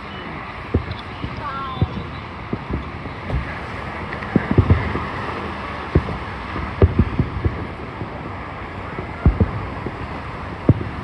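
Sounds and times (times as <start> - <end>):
background rush: 0.0 - 11.0
fireworks booming: 0.0 - 11.0.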